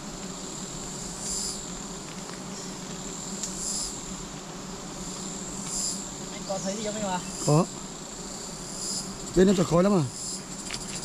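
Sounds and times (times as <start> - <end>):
bees buzzing: 0.0 - 11.0
shrill insect call: 0.0 - 11.0.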